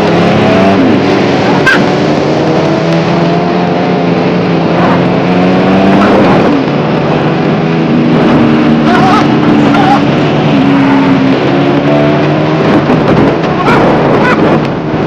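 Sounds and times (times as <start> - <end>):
motorcycle engine revving: 0.0 - 15.0
traffic noise: 0.0 - 15.0
wind noise on microphone: 0.0 - 15.0.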